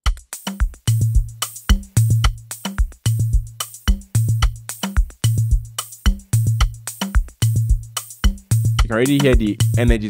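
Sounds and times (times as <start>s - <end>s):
kick drum: 0.0s - 10.0s
hi-hats: 0.1s - 10.0s.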